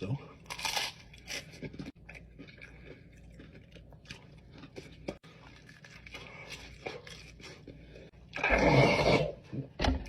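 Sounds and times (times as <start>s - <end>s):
person chewing crispy food: 0.4s - 8.5s.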